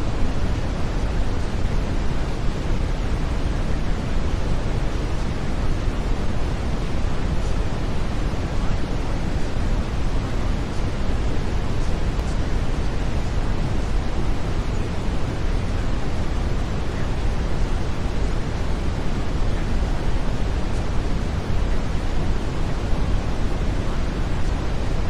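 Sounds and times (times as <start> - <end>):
brown noise hiss: 0.0 - 25.0.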